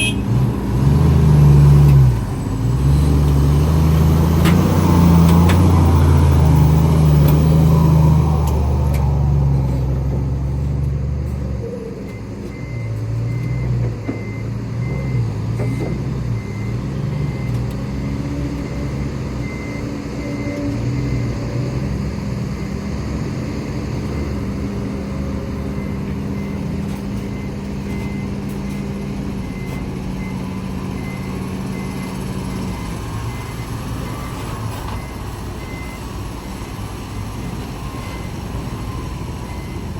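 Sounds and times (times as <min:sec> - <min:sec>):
heavy diesel machinery running: 0:00.0 - 0:39.9
reversing alarm beeping: 0:01.0 - 0:36.7, 0:37.4 - 0:39.9.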